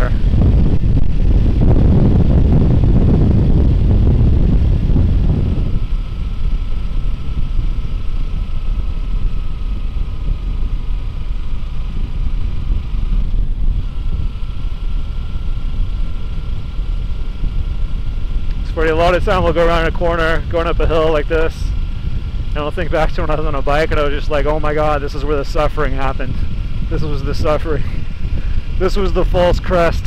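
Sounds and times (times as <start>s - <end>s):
motorcycle engine whining: 0.0s - 30.0s
wind rush on microphone: 0.0s - 30.0s.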